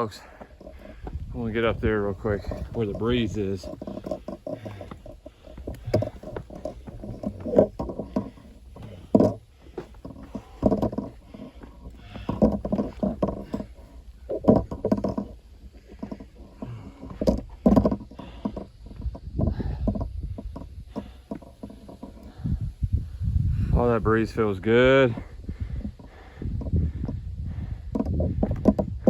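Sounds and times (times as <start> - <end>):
heavy breathing: 0.0 - 29.0.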